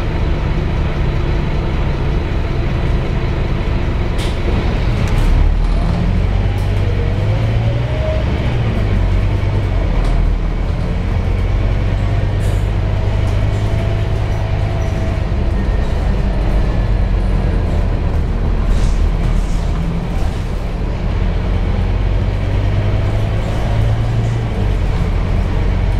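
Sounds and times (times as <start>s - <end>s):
bus engine rumble: 0.0s - 25.9s.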